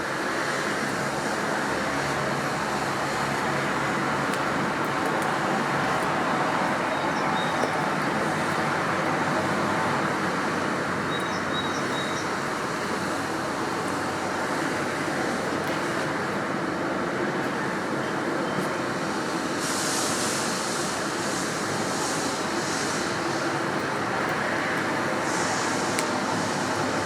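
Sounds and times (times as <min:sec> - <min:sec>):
distant traffic rush: 0:00.0 - 0:27.0.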